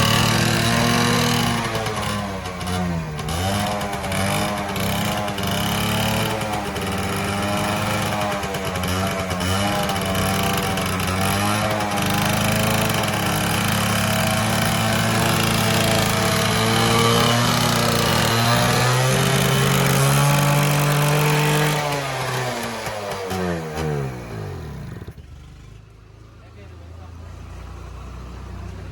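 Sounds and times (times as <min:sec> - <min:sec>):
two-stroke engine running: 0:00.0 - 0:28.9.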